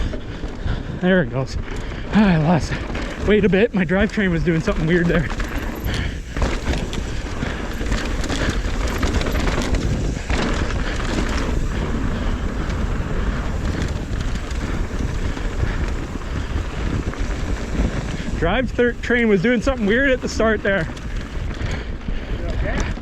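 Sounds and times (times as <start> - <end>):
bike clicks and rattles: 0.0 - 23.0
bike tyres rumbling on dirt: 0.0 - 23.0
wind noise on microphone: 0.0 - 23.0.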